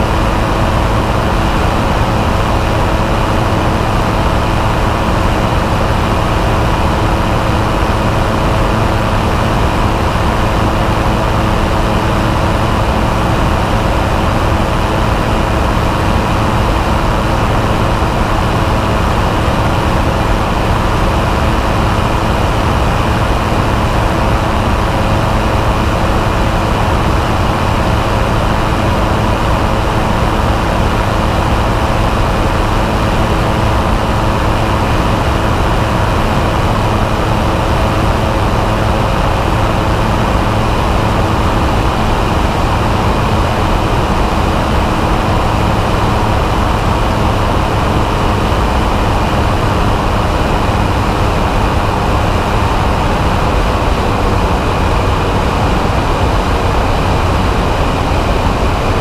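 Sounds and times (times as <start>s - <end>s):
engine and propeller drone: 0.0s - 59.0s.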